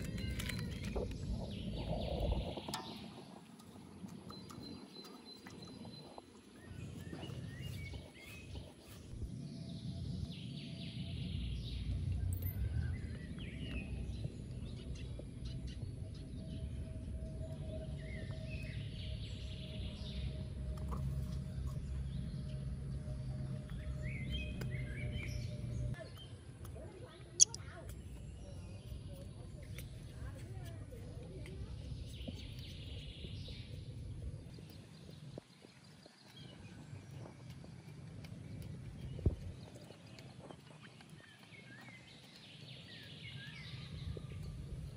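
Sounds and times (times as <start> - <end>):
low outdoor rumble: 0.0 - 4.8, 5.8 - 44.9
birds chirping: 0.0 - 26.4, 27.3 - 30.6, 31.5 - 44.9.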